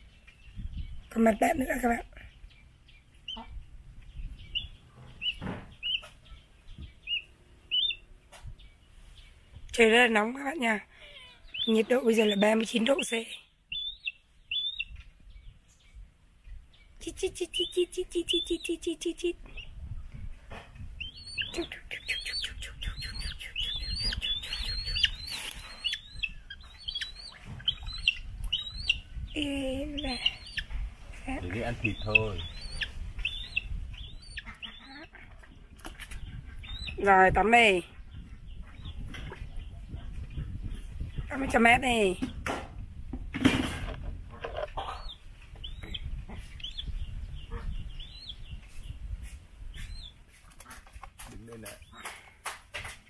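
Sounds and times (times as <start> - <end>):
young birds of prey chirping: 0.0 - 42.5, 44.7 - 52.3.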